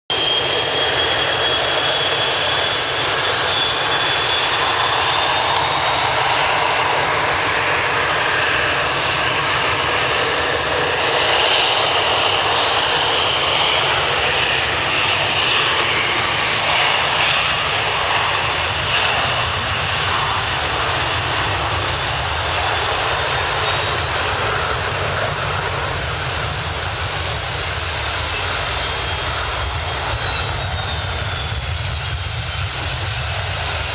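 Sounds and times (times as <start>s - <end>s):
jet engines at takeoff power: 0.1s - 33.9s.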